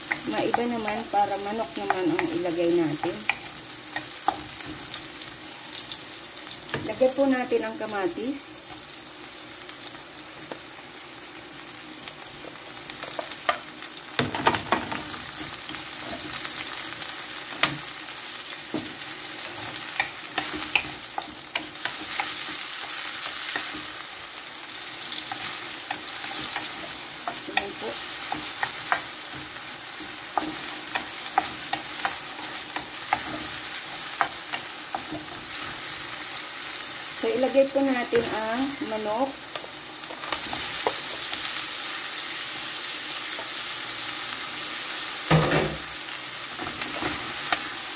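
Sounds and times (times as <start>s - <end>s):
vegetables sizzling in hot oil: 0.0s - 47.9s.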